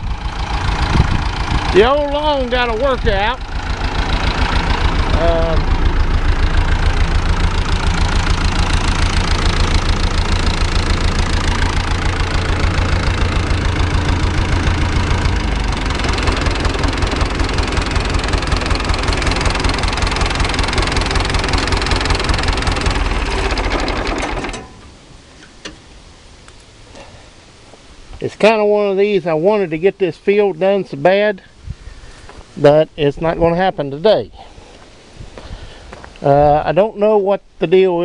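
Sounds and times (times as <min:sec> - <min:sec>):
diesel tractor engine running: 0:00.0 - 0:38.0.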